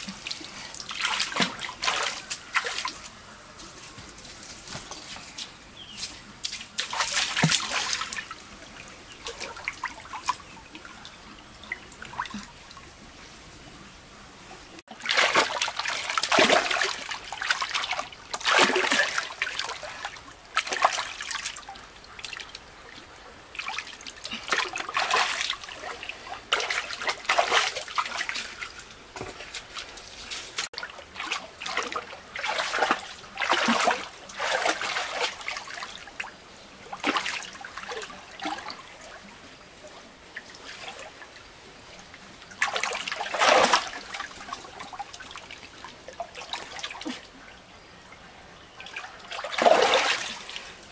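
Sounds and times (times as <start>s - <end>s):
water splashing and sloshing: 0.0s - 50.9s.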